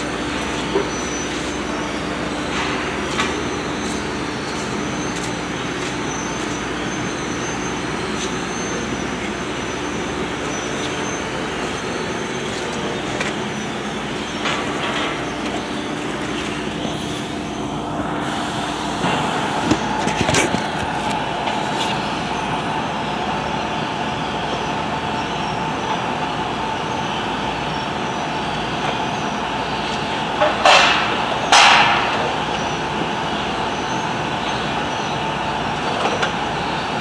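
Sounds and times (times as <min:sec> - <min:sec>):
steady whine: 0:00.0 - 0:37.0
workshop machinery drone: 0:00.0 - 0:37.0.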